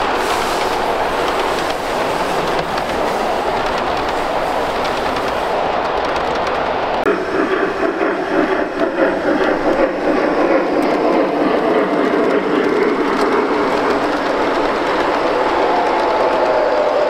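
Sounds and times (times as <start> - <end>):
model train rumbling on rails: 0.0 - 17.0.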